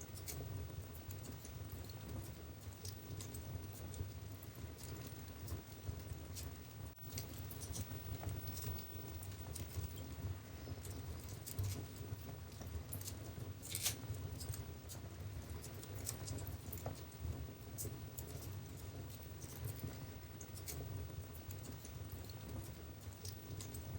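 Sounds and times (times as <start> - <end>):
fire crackles and pops: 0.0 - 23.9
low rumble of fire: 0.0 - 23.9.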